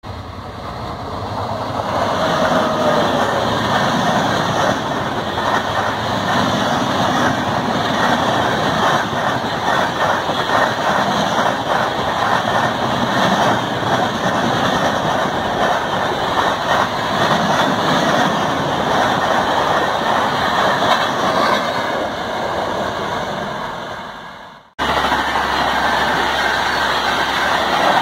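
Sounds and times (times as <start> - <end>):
train wheels running on rail: 0.0 - 28.0.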